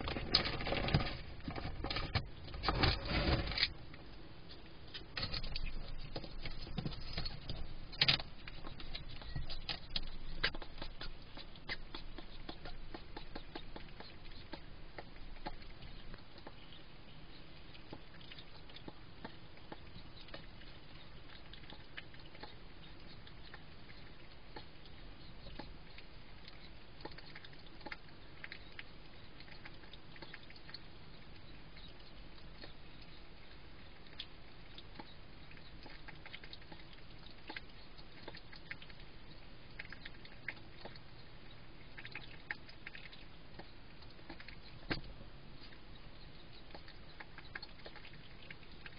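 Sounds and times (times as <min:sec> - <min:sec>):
hedgehog crunching food: 0:00.0 - 0:16.8, 0:17.6 - 0:48.9.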